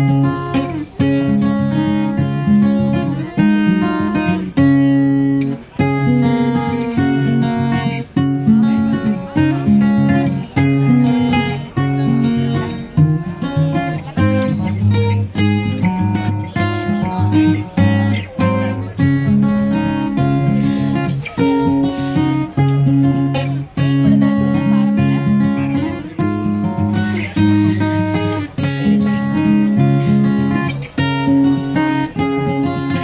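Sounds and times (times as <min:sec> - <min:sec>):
strummed acoustic guitar: 0:00.0 - 0:33.0.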